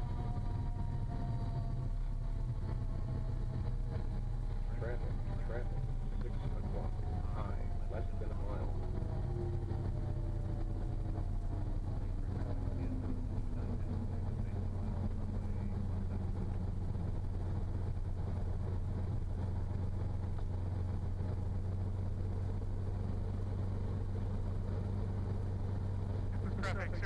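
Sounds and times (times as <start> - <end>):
aircraft engine and propeller drone: 0.0 - 27.0.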